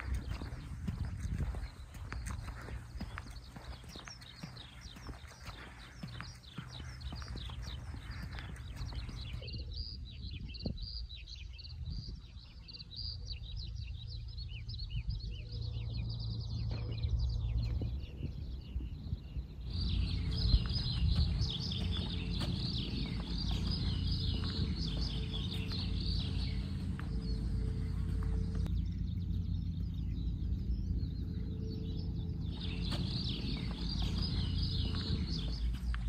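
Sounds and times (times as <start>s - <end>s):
low rumble: 0.0s - 36.0s
small birds chirping: 0.0s - 36.0s.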